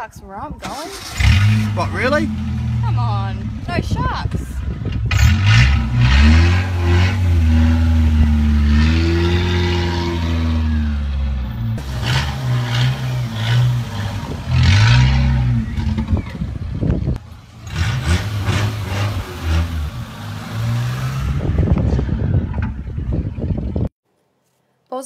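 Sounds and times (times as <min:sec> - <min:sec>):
car engine revving: 0:00.8 - 0:23.8.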